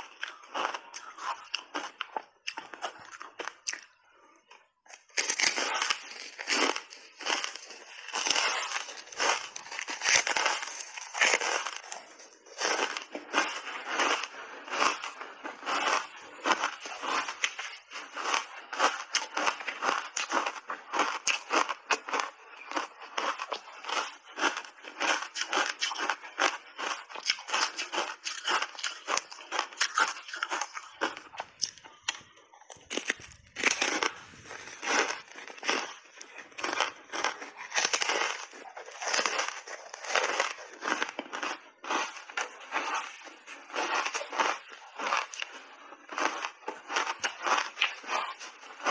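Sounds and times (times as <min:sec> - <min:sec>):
crunching and chewing ice bar: 0:00.0 - 0:48.9.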